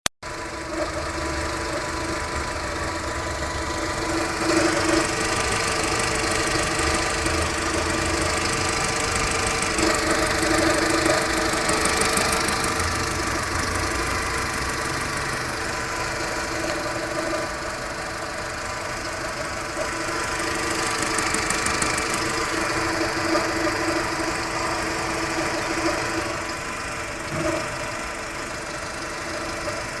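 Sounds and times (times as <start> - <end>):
car engine idling: 0.2 - 30.0
low hoarse vibration: 0.3 - 30.0
pulley whir: 0.6 - 30.0.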